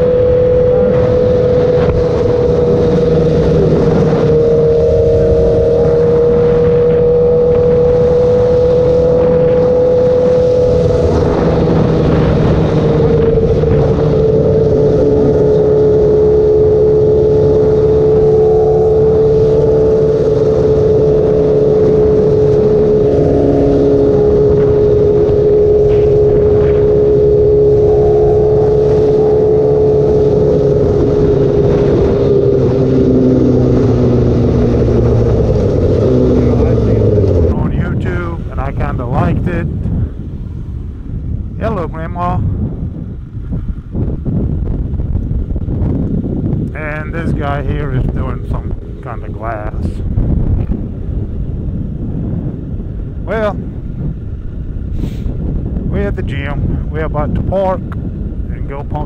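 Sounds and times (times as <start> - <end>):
motorcycle engine cruising: 0.0 - 59.0
road noise: 0.0 - 59.0
wind rush: 0.0 - 59.0.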